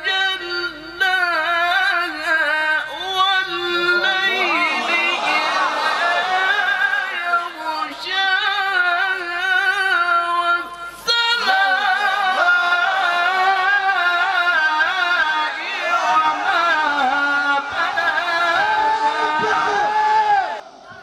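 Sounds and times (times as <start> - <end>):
man reciting melodically: 0.0 - 20.6.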